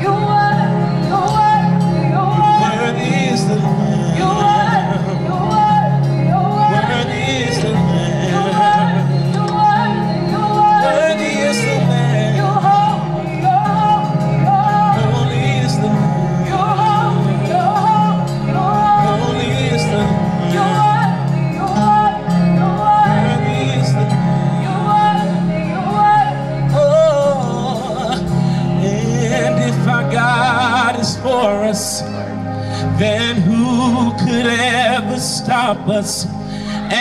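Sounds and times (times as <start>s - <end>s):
steady bass notes: 0.0s - 37.0s
wavering melody lines: 0.0s - 37.0s.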